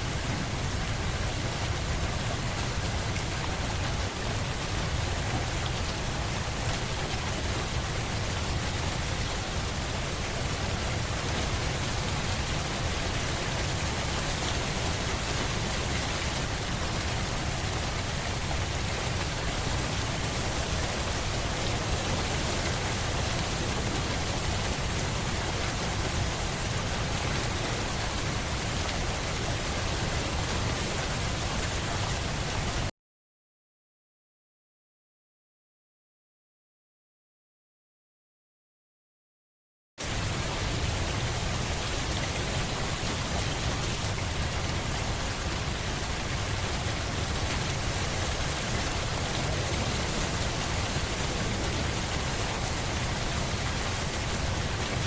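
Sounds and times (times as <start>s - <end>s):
steady rain falling: 0.0s - 32.9s, 40.0s - 55.0s.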